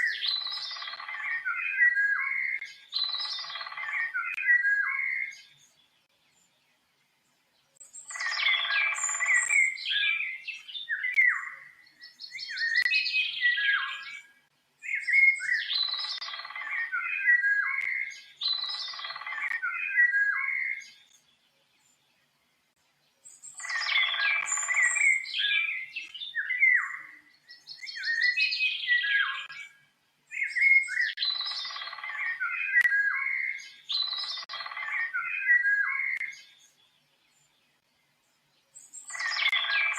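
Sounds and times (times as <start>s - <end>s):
songbird warbling: 0.0s - 5.6s, 7.8s - 21.1s, 23.3s - 36.7s, 38.8s - 39.9s.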